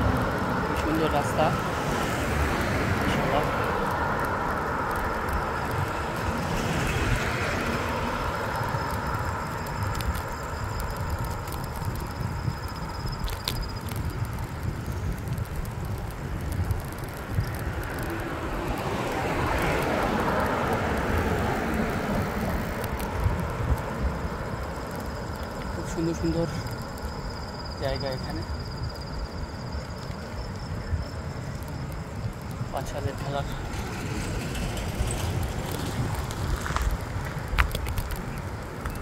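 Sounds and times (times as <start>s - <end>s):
cars passing: 0.0s - 11.6s, 15.3s - 39.0s
wind buffeting microphone: 0.0s - 27.8s, 28.4s - 39.0s
road noise: 0.0s - 39.0s.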